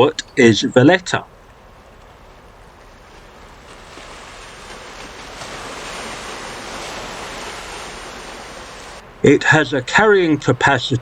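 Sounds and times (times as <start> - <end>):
wind: 0.0 - 11.0
river water rushing: 1.2 - 11.0.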